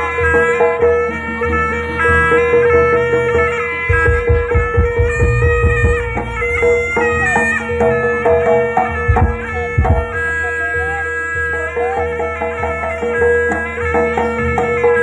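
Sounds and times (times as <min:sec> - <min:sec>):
reedy wind melody: 0:00.0 - 0:15.0
drum strokes: 0:00.4 - 0:15.0.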